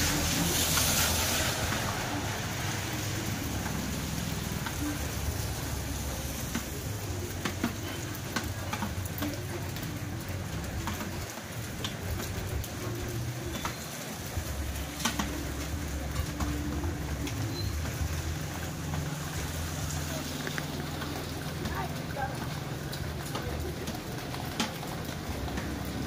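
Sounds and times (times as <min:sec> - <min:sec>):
drops ticking on leaves: 0:00.0 - 0:26.0
steady rain falling: 0:00.0 - 0:26.0.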